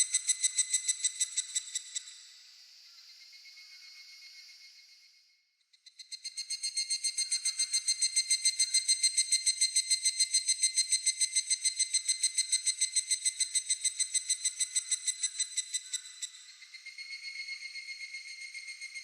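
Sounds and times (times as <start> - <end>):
cicada calling in ringing pulses: 0.0 - 2.3, 6.0 - 19.0.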